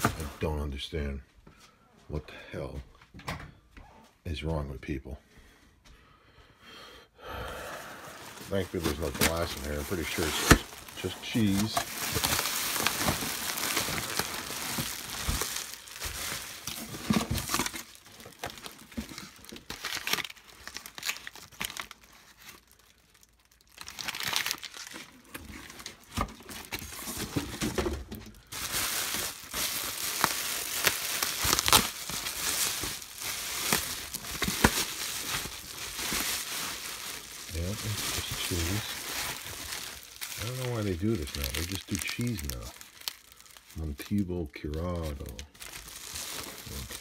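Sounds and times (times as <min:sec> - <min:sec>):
foil liner crinkling: 0:08.2 - 0:47.0.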